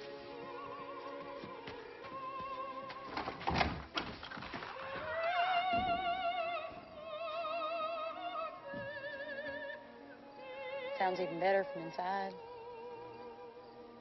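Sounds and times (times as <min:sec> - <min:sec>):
music: 0:00.0 - 0:14.0
operatic singing with vibrato: 0:00.1 - 0:03.0, 0:04.7 - 0:14.0.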